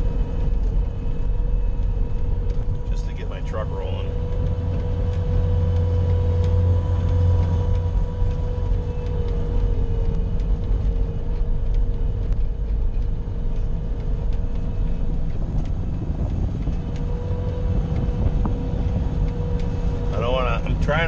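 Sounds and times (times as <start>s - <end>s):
faint steady whine: 0.0s - 21.0s
loader engine rumbling: 0.0s - 21.0s.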